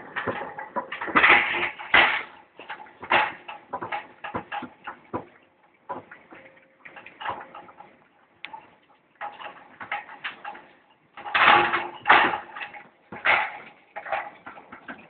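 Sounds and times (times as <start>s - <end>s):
metal clanks and knocks: 0.0s - 15.0s.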